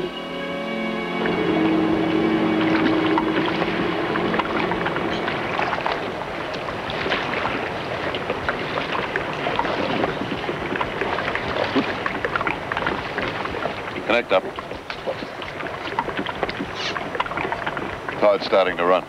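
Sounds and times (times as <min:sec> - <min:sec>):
sea water slapping a boat: 0:01.2 - 0:19.0
wind buffeting microphone: 0:01.3 - 0:19.0.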